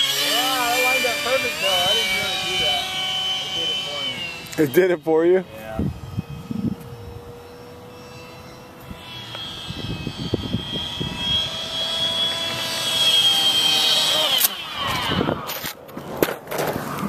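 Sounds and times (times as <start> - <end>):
electric motor and propeller whining: 0.0 - 17.0.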